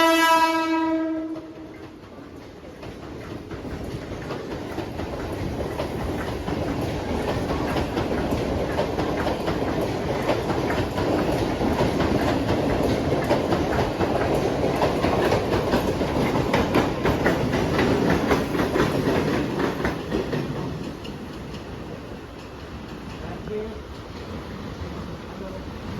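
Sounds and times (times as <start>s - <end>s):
train running past: 0.0s - 25.9s
wheels clicking over rail joints: 1.2s - 24.6s.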